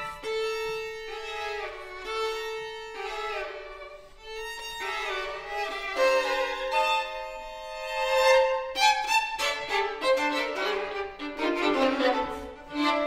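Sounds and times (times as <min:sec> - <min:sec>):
violin duet: 0:00.0 - 0:13.0.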